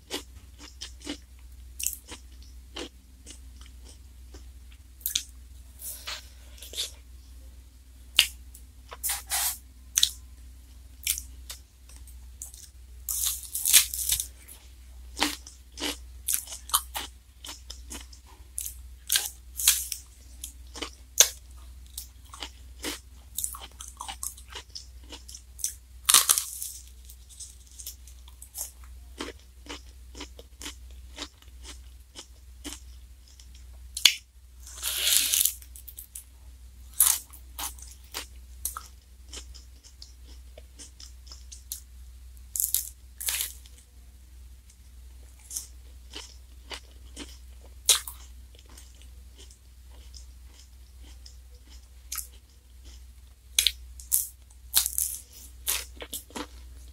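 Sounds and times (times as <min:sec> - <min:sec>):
chewing and crunching wafer cone: 0:00.0 - 0:05.3, 0:11.0 - 0:36.3, 0:36.9 - 0:43.9, 0:45.2 - 0:56.9
steady low hum: 0:00.0 - 0:56.9.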